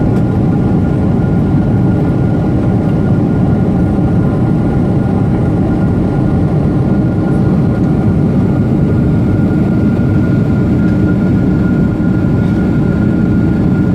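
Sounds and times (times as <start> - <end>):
jet engine cabin rumble: 0.0 - 13.9.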